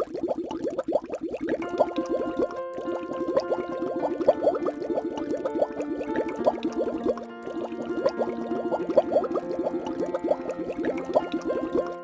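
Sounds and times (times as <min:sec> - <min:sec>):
water gurgling down a drain: 0:00.0 - 0:12.0
background music with held notes: 0:01.5 - 0:12.0.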